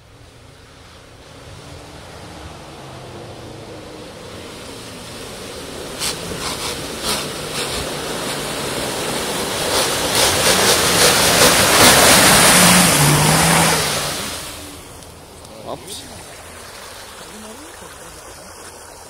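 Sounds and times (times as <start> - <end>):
wheels churning and splashing mud: 0.0 - 19.0
engine running under load: 0.8 - 19.0.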